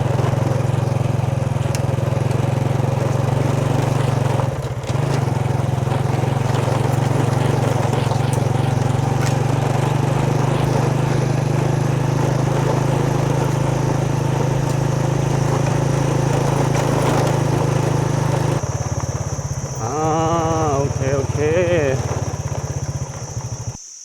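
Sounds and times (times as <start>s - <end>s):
motorbike engine running: 0.0s - 23.8s.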